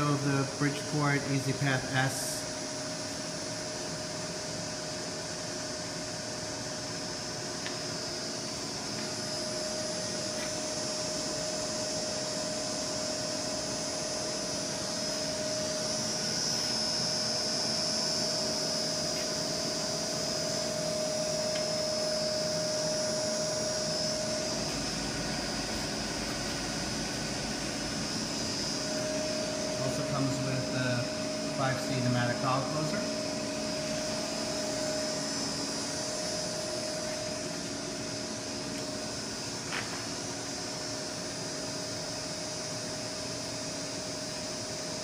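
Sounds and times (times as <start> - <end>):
lathe machine whir: 0.0 - 45.0
steady whine: 0.0 - 45.0.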